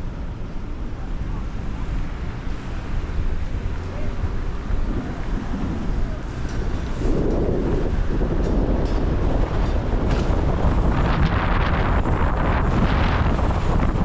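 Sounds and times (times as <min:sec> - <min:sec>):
tyres rumbling on wet road: 0:00.0 - 0:14.0.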